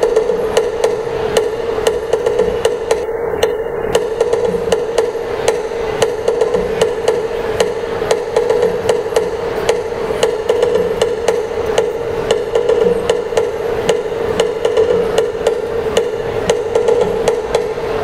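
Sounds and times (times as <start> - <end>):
sharp percussion strikes: 0.0 - 18.0
steady ringing tone: 0.0 - 18.0.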